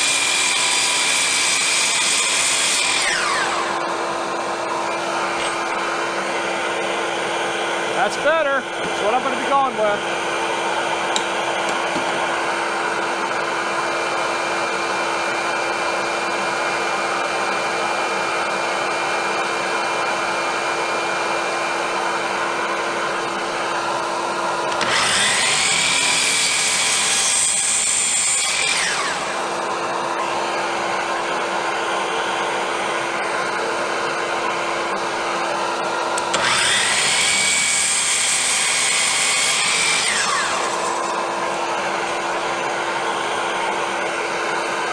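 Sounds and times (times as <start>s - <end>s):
miter saw motor whine: 0.0s - 17.6s, 18.2s - 44.9s.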